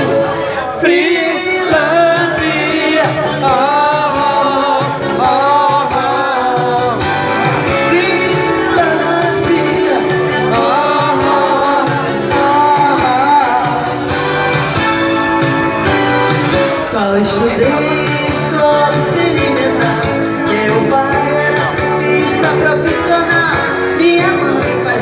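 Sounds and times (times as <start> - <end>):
accompaniment music with beat: 1.7 - 25.0.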